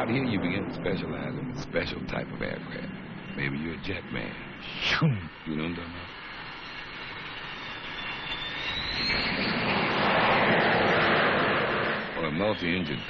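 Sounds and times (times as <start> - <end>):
high whine: 0.0 - 13.0
jet engines roaring: 0.0 - 13.0.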